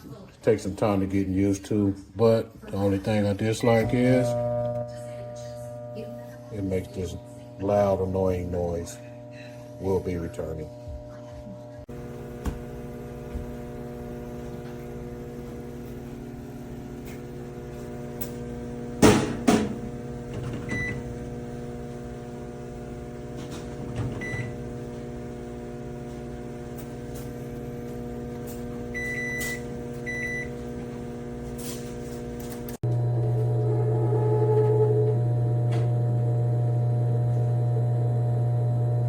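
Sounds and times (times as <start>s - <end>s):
appliance humming: 2.2s - 39.0s.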